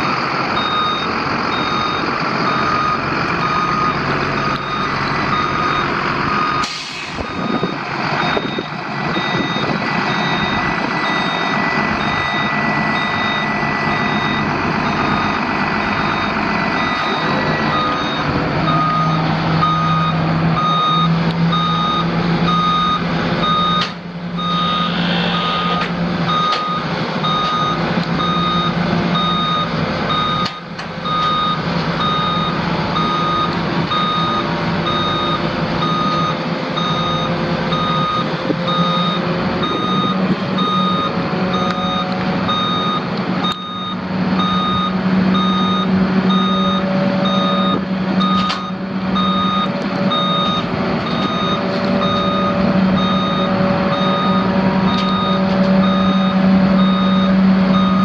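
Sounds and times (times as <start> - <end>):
diesel engine running: 0.0 - 58.0
truck backup alarm beeping: 0.0 - 58.0.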